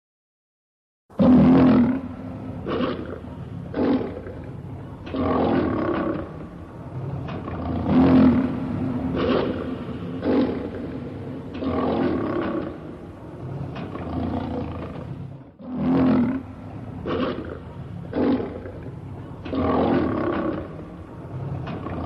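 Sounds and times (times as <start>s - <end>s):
lion roaring: 1.2s - 22.0s.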